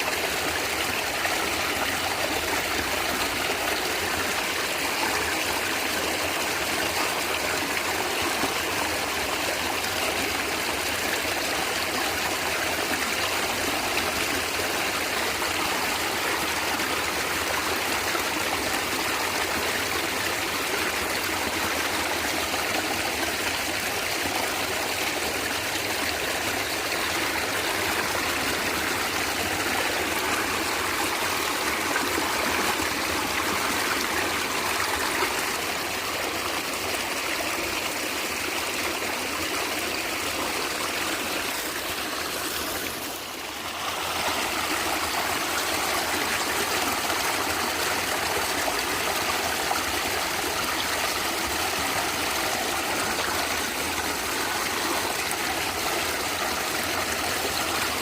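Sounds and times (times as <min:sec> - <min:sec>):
stream water gurgling: 0:00.0 - 0:58.0.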